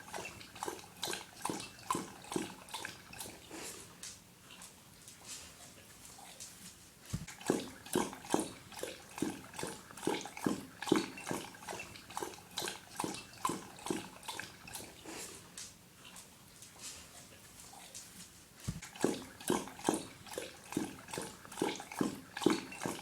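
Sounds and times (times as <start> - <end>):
dog lapping water: 0.0 - 6.1, 6.9 - 23.0.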